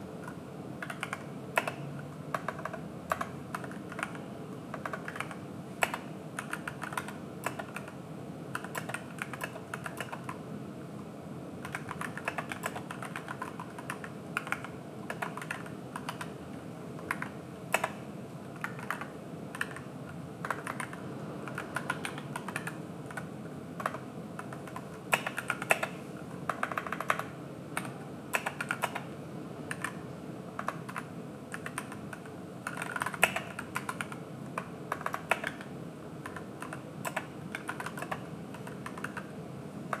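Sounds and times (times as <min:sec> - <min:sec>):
mechanical keyboard typing: 0:00.2 - 0:10.4, 0:11.6 - 0:16.4, 0:17.0 - 0:18.0, 0:18.6 - 0:30.0, 0:30.6 - 0:39.3.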